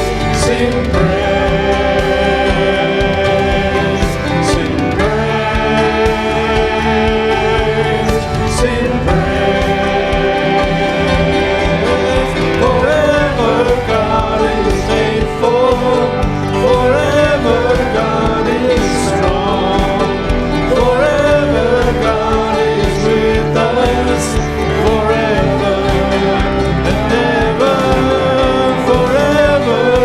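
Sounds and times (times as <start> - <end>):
instrumental accompaniment: 0.0 - 30.0
worship singing: 0.0 - 30.0.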